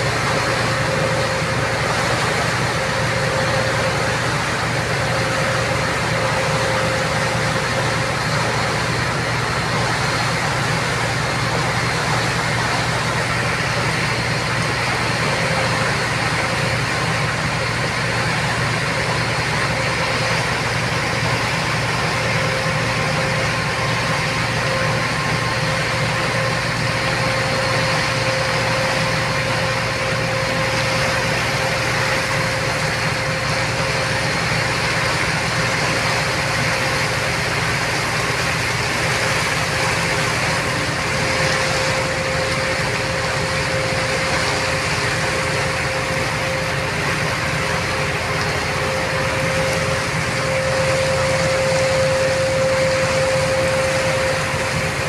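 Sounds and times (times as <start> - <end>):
ship engine droning: 0.0 - 55.0
water churning in wake: 0.0 - 55.0.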